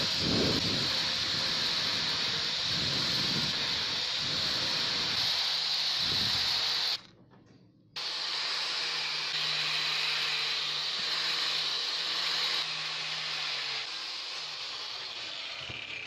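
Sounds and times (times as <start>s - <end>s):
angle grinder polishing metal: 0.0s - 7.0s, 8.0s - 16.0s.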